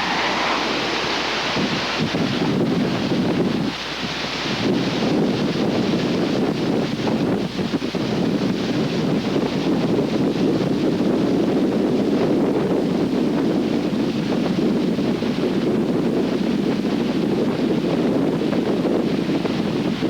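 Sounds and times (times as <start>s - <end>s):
storm wind on microphone: 0.0s - 20.0s.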